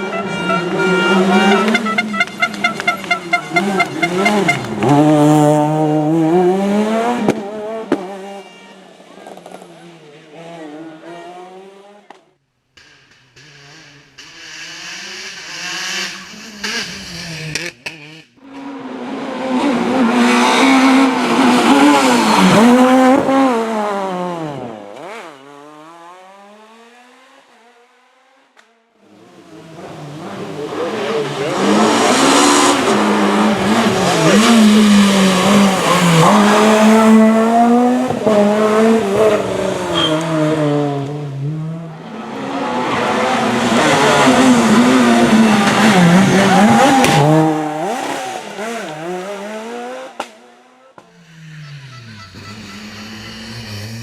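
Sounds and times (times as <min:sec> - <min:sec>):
rally car engines revving past: 0:00.0 - 0:54.0.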